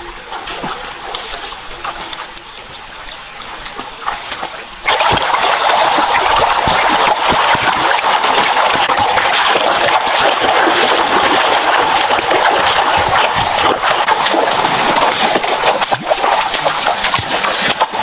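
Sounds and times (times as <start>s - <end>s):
water splashing and trickling: 0.2s - 18.0s.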